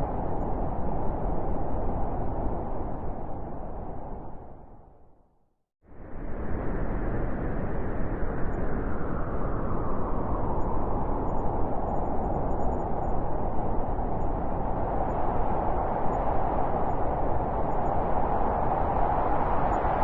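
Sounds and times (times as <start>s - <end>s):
howling wind: 0.0s - 20.0s.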